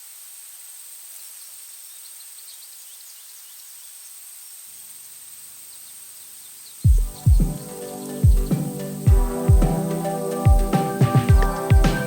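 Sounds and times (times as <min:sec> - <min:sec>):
high thin insect drone: 0:00.0 - 0:12.0
small birds chirping: 0:00.6 - 0:12.0.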